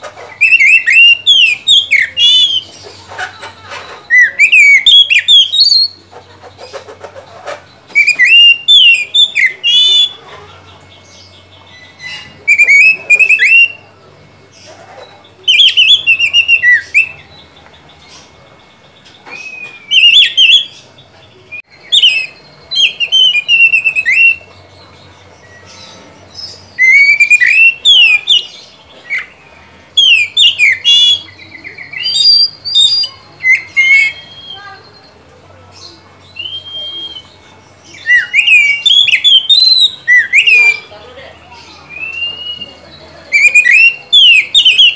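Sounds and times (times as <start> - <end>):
bird singing whistles and trills: 0.3 - 2.7, 3.9 - 6.0, 7.8 - 10.2, 10.8 - 14.0, 15.0 - 44.9.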